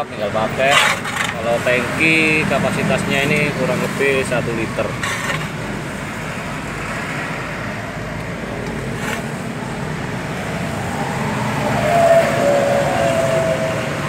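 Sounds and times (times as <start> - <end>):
passing vehicle: 0.0 - 14.0
road traffic noise: 0.0 - 14.0.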